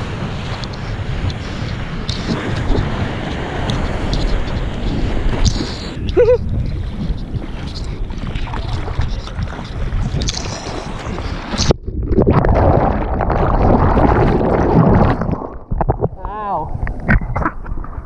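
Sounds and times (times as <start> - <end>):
muffled underwater churning and bubbles: 0.0 - 18.0
ocean water splashing: 0.0 - 18.0
wind on microphone: 0.0 - 18.0.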